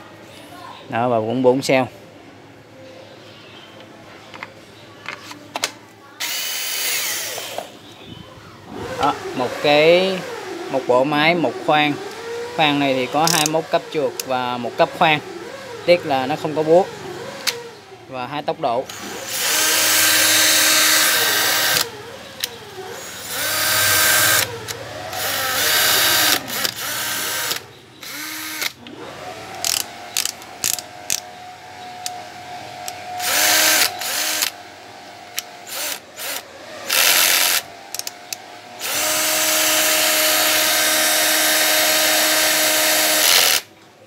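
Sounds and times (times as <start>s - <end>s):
cordless drill motor whine: 6.2s - 7.7s, 8.7s - 17.9s, 18.8s - 43.7s.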